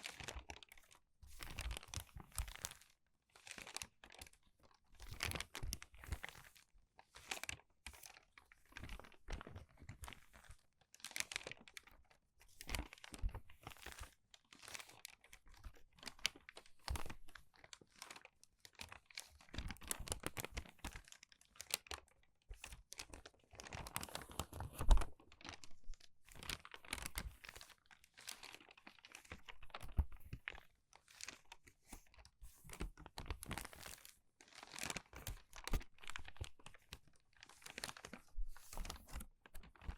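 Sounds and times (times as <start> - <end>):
crinkly paper pages turning: 0.0 - 39.9.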